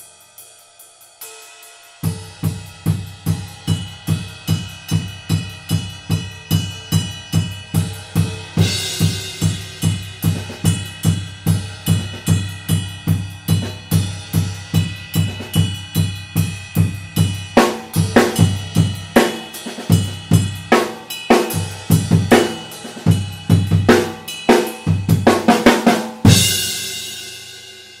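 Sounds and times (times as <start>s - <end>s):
ringing cymbal strokes: 0.0s - 28.0s
cymbal crash: 1.2s - 25.1s, 26.2s - 28.0s
low drum beat: 2.1s - 20.9s, 21.5s - 24.2s, 24.9s - 27.1s.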